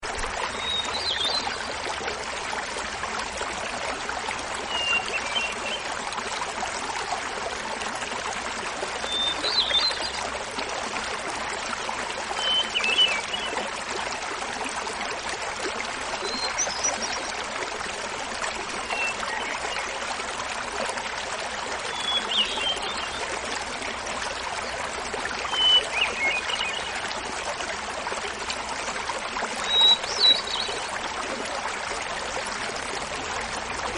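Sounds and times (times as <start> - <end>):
waterfall babbling: 0.1 - 33.9.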